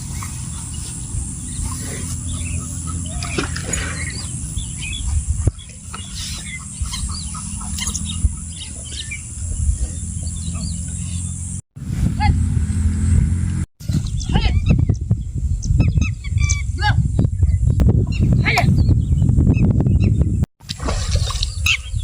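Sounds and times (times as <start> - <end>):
birds chirping: 0.0 - 11.6, 12.6 - 20.5
steady low rumble: 0.0 - 20.5.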